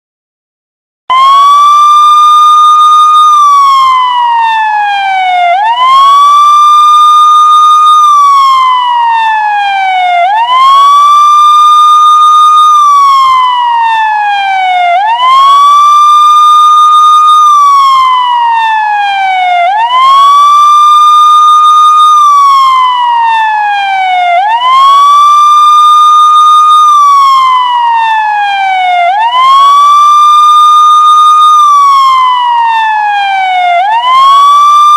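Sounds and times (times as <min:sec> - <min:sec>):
electronic wailing siren tone: 0:01.1 - 0:34.9.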